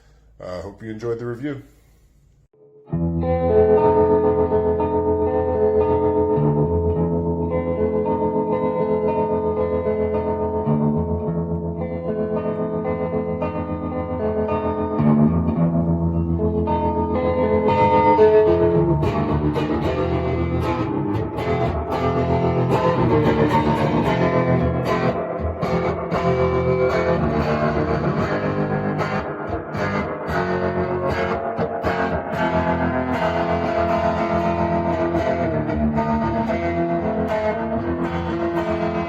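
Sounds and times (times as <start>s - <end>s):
guitar melody: 2.6s - 39.0s.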